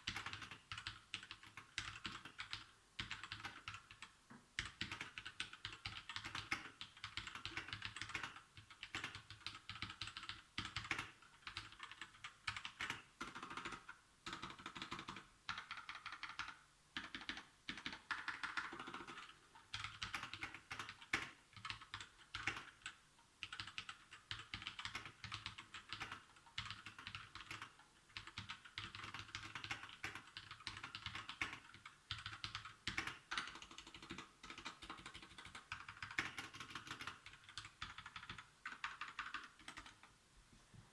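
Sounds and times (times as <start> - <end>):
mechanical keyboard typing: 0.0 - 40.1.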